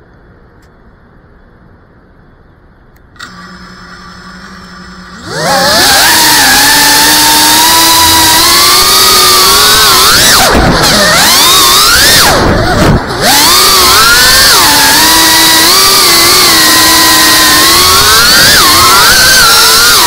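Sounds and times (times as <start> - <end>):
drone motors whining: 3.0 - 20.0.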